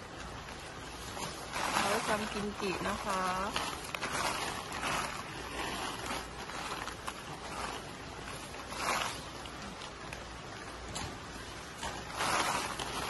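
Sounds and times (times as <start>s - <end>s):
dried chillies rustling: 0.0s - 13.0s.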